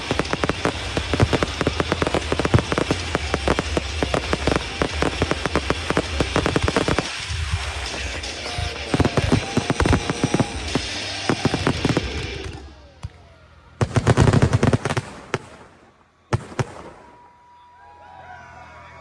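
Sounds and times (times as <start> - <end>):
fireworks bangs and crackling: 0.0 - 17.4.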